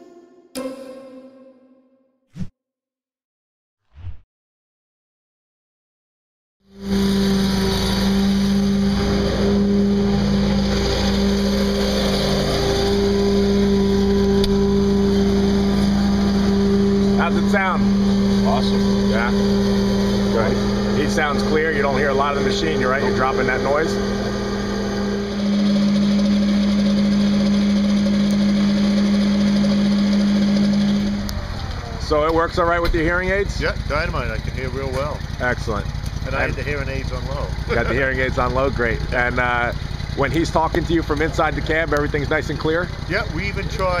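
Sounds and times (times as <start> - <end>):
vehicle engine droning: 6.7 - 44.0.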